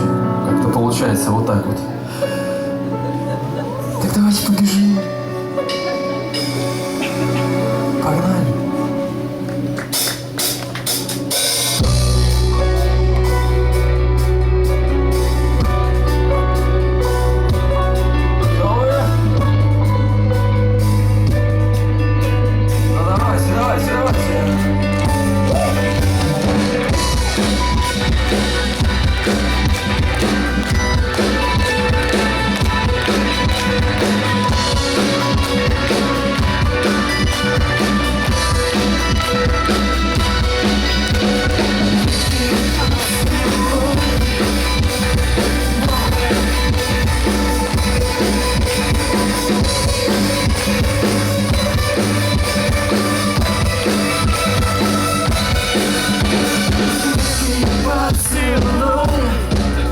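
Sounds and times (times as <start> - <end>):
bass guitar: 0.0 - 59.9
electric guitar: 0.0 - 59.9
drums keeping a steady beat: 2.8 - 16.4, 22.7 - 59.9.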